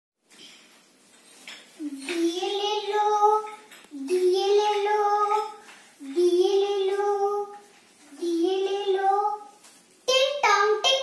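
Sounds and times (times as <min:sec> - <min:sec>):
girl singing: 0:01.8 - 0:11.0.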